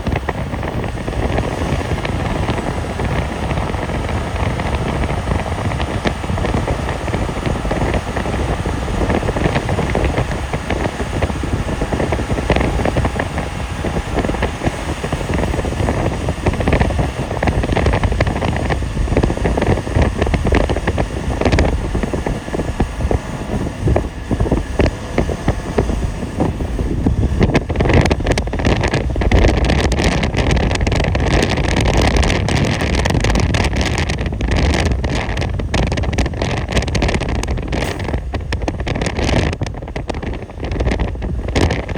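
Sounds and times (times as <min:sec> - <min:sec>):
engine and tyre rumble: 0:00.0 - 0:41.9
wind buffeting microphone: 0:00.0 - 0:41.9.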